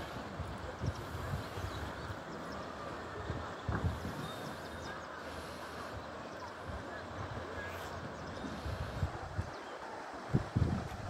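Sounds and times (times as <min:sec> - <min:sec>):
river water flowing: 0:00.0 - 0:11.0
wind buffeting microphone: 0:00.0 - 0:11.0.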